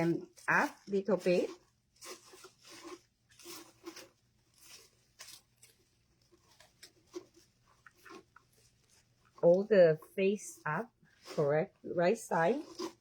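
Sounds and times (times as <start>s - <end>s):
ribbon rustling and crinkling: 0.0s - 13.0s.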